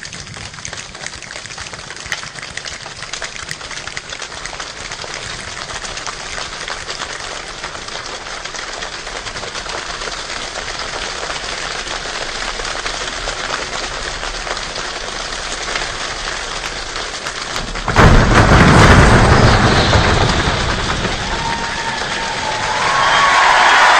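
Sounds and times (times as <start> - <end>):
heavy downpour with low rumble: 0.0 - 23.9
rain patter: 0.0 - 23.9.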